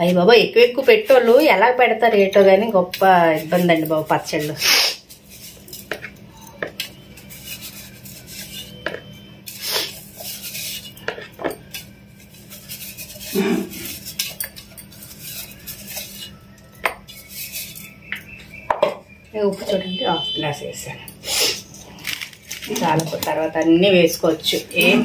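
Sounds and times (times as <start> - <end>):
steel tumblers clinking: 1.3 - 25.0.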